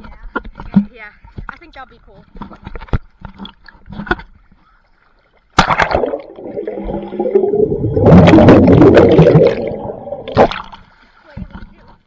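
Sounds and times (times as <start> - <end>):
water splashing and gurgling: 2.3 - 12.0.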